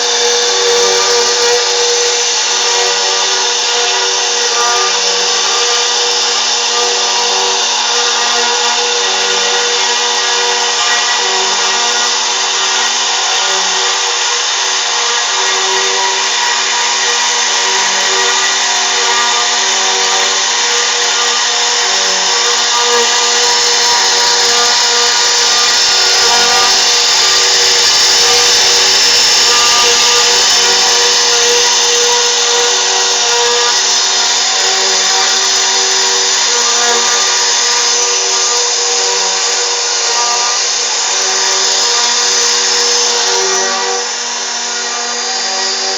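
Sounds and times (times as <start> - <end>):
cutting hiss: 0.0 - 45.9
router spindle whine: 0.0 - 45.9.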